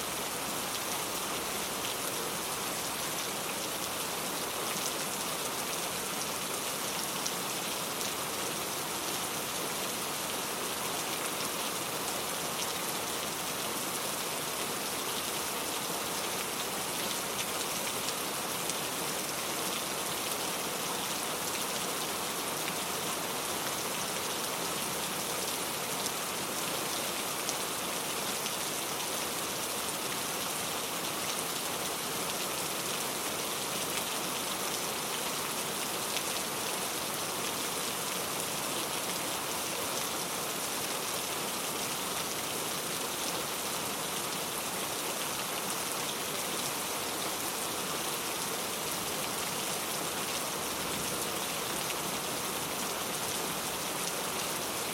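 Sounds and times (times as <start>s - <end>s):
patter of raindrops: 0.0s - 54.9s
rain falling: 0.0s - 54.9s.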